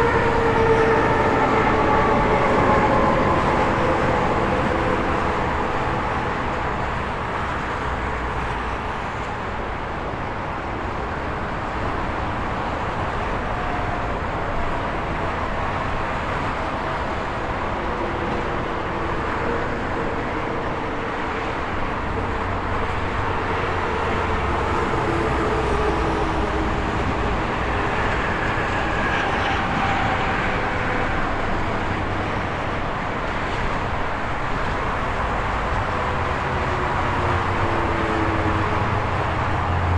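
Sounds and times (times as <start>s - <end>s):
highway traffic rushing: 0.0s - 39.9s.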